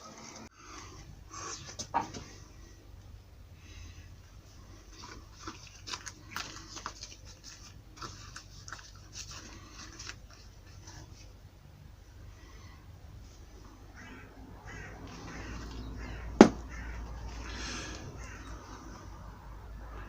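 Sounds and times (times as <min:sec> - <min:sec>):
steady low hum: 0:00.3 - 0:20.0.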